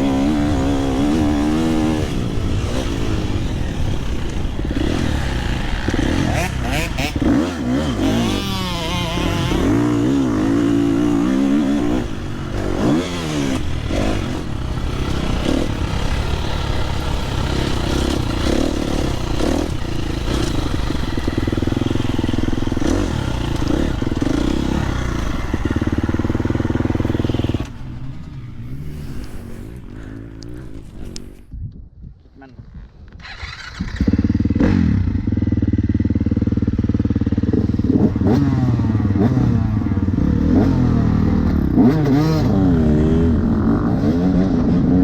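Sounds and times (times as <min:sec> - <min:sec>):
motocross bike engine revving: 0:00.0 - 0:31.5, 0:33.2 - 0:45.0.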